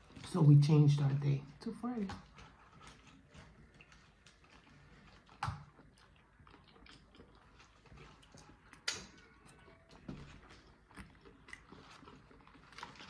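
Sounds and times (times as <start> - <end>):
close-miked chewing: 2.0 - 13.0.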